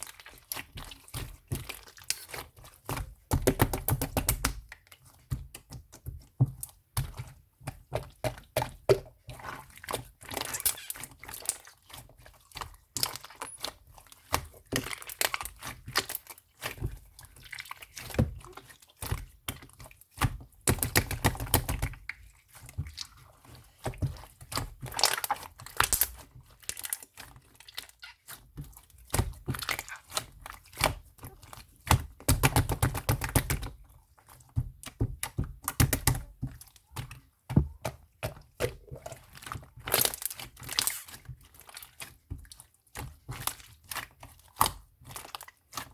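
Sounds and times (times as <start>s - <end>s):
slime squished by hand: 8.0s - 45.9s.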